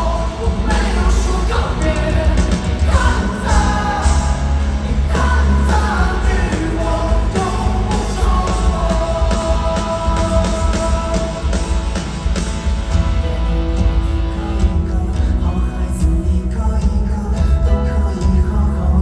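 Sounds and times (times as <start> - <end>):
live rock band playing: 0.0 - 18.9.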